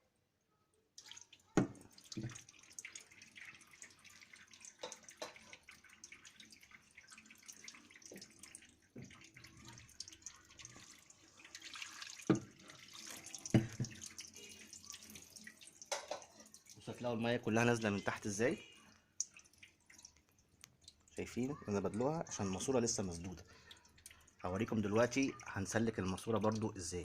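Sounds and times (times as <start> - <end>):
water pouring and splashing: 1.0 - 27.0.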